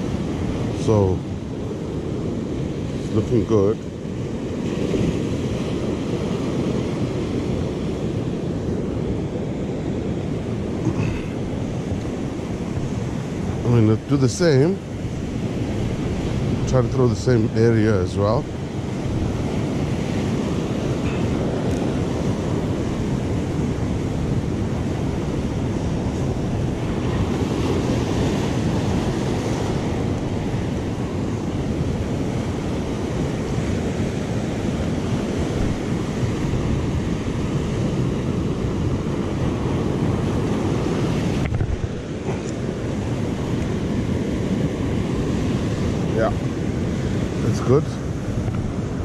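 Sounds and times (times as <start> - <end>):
wind on microphone: 0.0 - 49.0.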